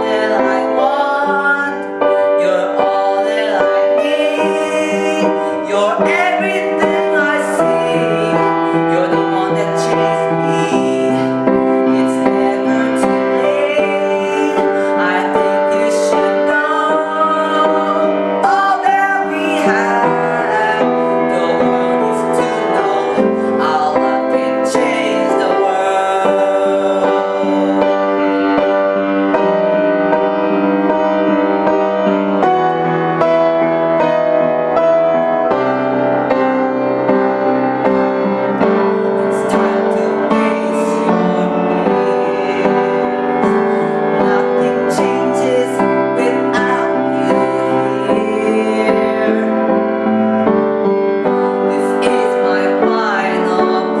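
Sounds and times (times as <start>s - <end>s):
person singing: 0.0s - 54.0s
piano pop ballad: 0.0s - 54.0s.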